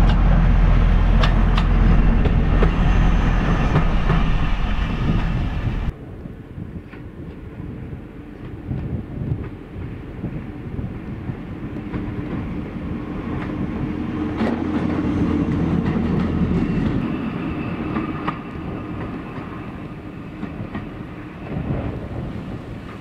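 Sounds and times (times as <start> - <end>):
electric railcar hum: 0.0 - 23.0.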